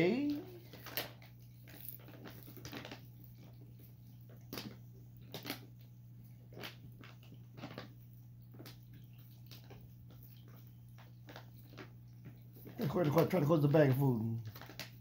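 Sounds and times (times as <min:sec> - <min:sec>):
rabbit crunching and clicking: 0:00.0 - 0:15.0
steady low hum: 0:00.0 - 0:15.0.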